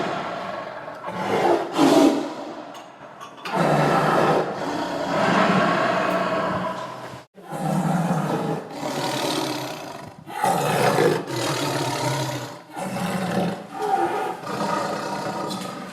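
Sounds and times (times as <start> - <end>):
tiger roaring and growling: 0.0 - 2.6, 3.4 - 15.9.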